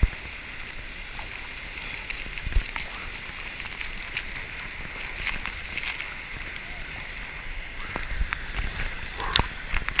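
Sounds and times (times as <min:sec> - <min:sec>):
water flowing: 0:00.0 - 0:10.0.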